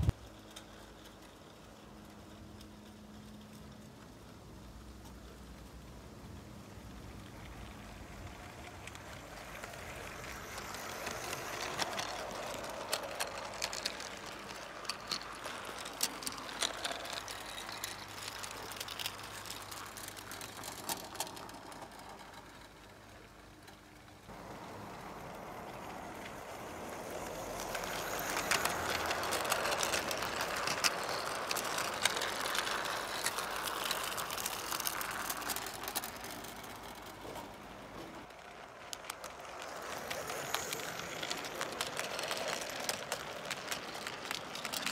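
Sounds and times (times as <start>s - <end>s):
model train wheels rattling on rails: 0.0s - 44.9s.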